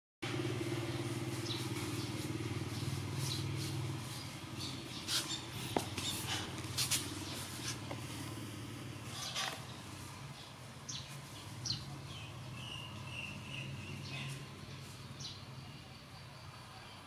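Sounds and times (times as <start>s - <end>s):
low motor hum: 0.2s - 15.7s.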